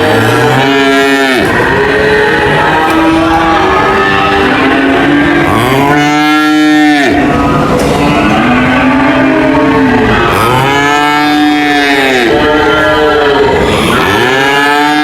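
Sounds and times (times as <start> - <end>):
cattle mooing: 0.0 - 15.0.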